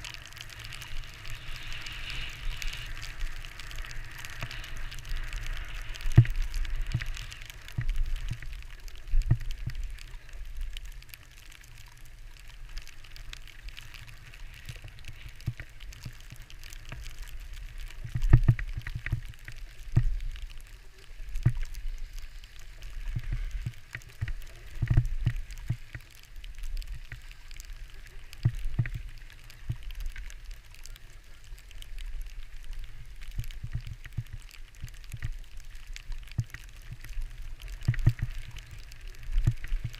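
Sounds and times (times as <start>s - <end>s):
skis sliding on snow: 0.0s - 39.9s.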